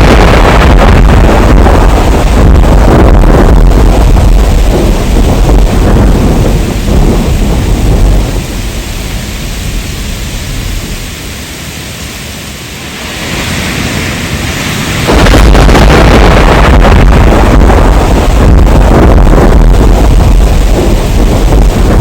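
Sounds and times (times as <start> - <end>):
heavy rain: 0.0 - 22.0
loud low rumbling: 0.0 - 22.0
thunder rumbling: 0.0 - 22.0.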